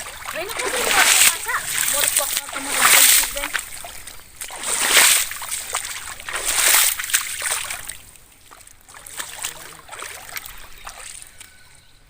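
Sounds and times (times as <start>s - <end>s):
water dripping: 0.0s - 11.6s
water splashing and sloshing: 0.0s - 12.0s.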